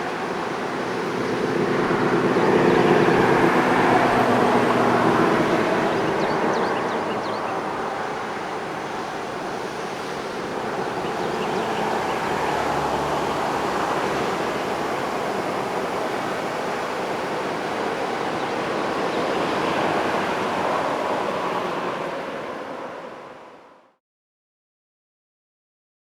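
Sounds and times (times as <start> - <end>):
road traffic passing: 0.0 - 23.8.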